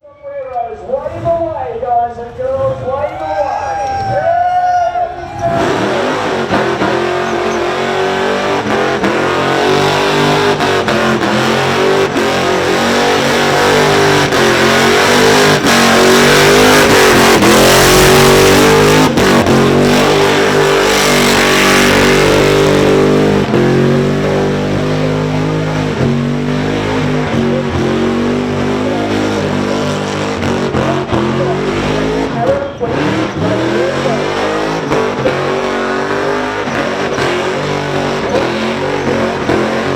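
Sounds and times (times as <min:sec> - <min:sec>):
car engine revving high: 0:05.3 - 0:39.9.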